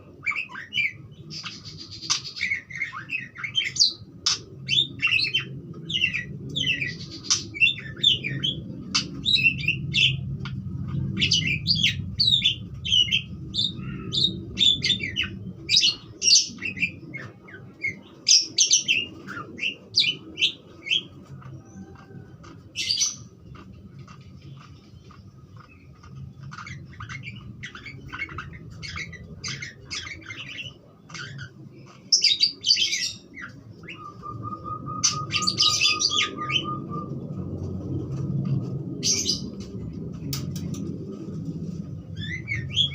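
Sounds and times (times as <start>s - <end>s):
parakeets chattering: 0.0s - 41.4s
steady low hum: 0.0s - 42.9s.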